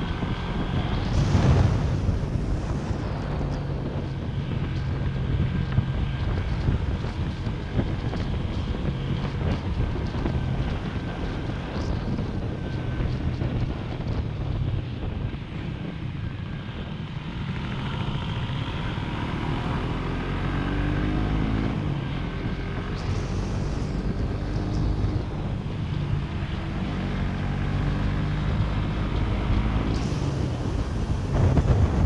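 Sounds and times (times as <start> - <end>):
motorcycle engine running: 0.0 - 32.0
wind rumble on microphone: 0.0 - 32.0.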